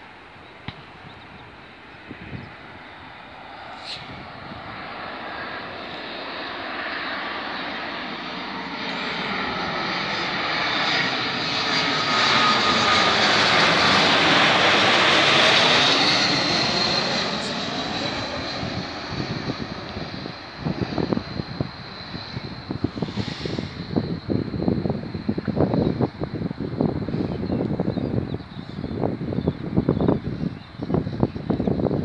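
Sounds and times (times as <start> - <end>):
jet plane passing overhead: 0.0 - 32.0
high steady engine whine: 0.1 - 32.0.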